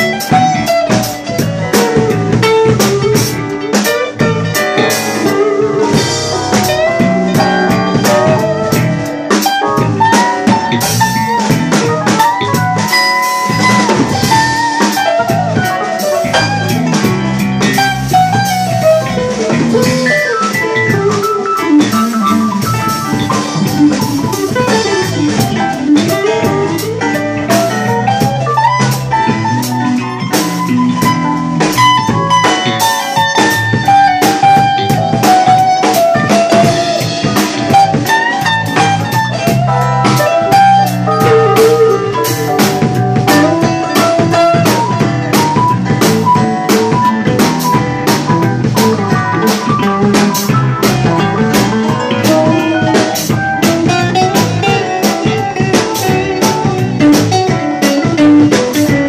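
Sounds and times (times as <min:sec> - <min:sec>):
bass guitar: 0:00.0 - 0:59.0
drum kit: 0:00.0 - 0:59.0
electric guitar lead: 0:00.0 - 0:59.0.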